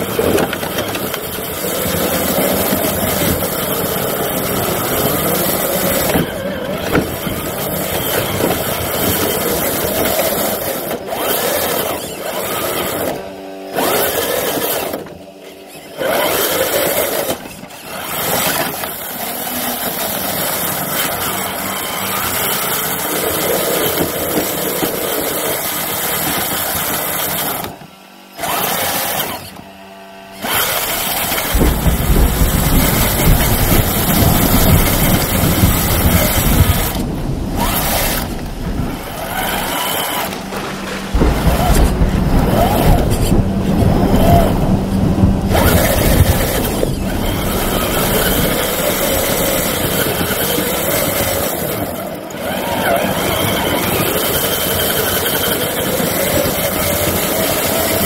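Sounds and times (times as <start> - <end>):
toy car electric motor whining: 0.0 - 58.0.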